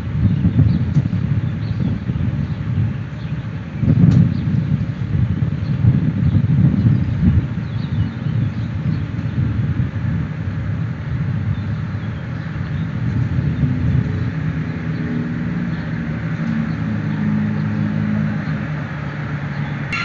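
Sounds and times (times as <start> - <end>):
city traffic rumble: 0.0 - 20.0
vehicle engine hum: 0.0 - 20.0.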